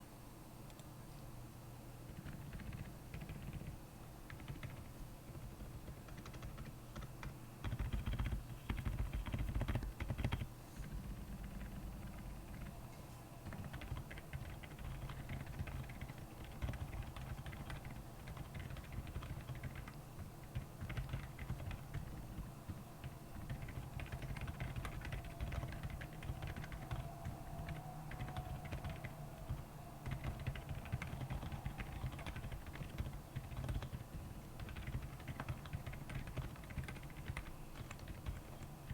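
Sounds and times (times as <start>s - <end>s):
mechanical keyboard typing: 2.1s - 12.7s, 13.4s - 38.9s.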